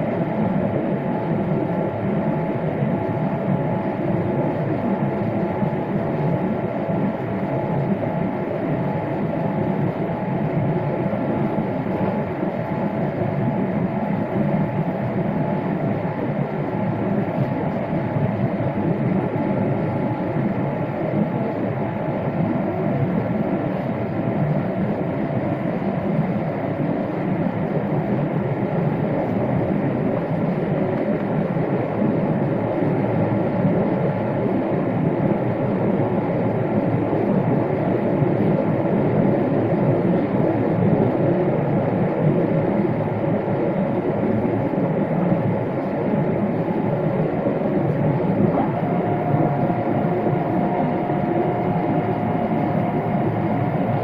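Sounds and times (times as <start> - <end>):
faint steady tones: 0.0 - 54.0
jet engines rumbling in cabin: 0.0 - 54.0.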